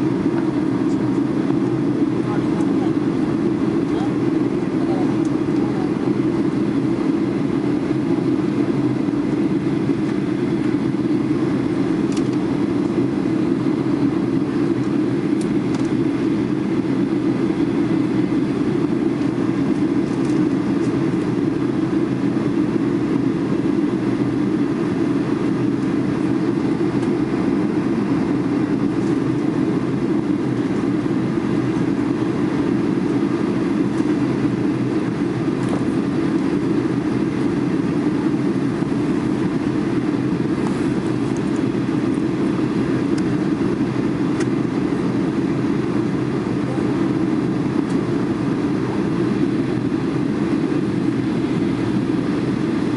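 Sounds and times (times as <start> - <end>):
airliner cabin drone: 0.0 - 52.9.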